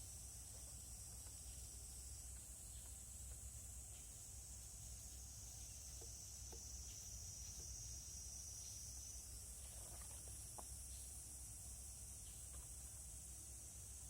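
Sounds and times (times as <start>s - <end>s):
faint small ticks: 0.0s - 13.3s
high-pitched insect chorus: 0.0s - 14.0s.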